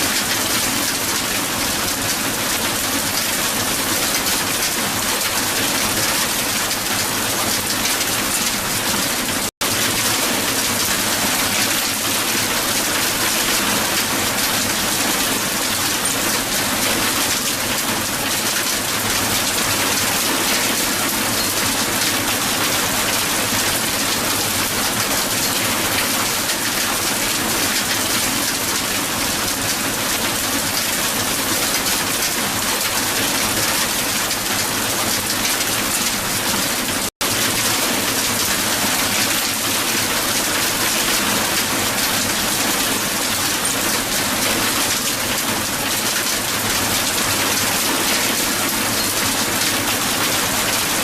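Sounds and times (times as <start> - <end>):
hail falling on ground: 0.1 - 51.0.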